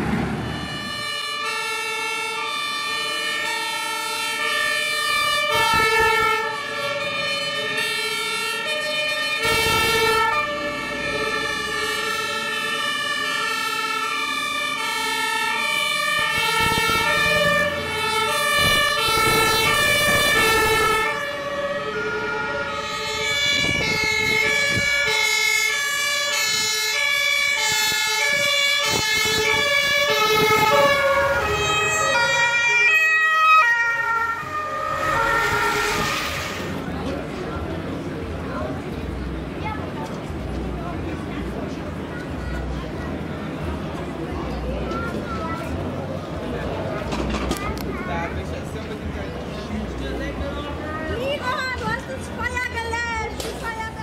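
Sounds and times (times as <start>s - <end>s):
two-tone fire truck sirens: 0.0s - 44.4s
truck engines passing: 0.0s - 54.0s.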